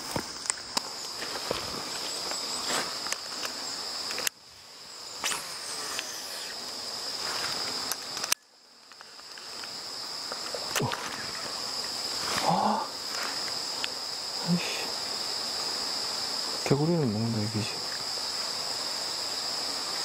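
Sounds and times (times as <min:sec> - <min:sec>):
insects shrilling: 0:00.0 - 0:20.0.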